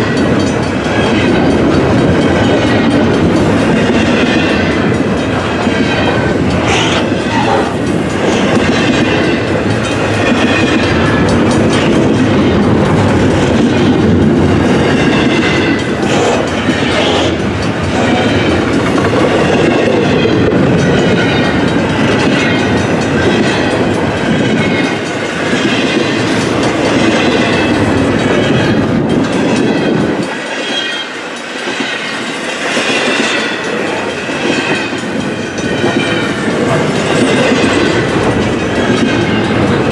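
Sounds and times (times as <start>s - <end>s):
freight train rumbling: 0.0s - 39.9s
train wheels clacking: 0.0s - 39.9s.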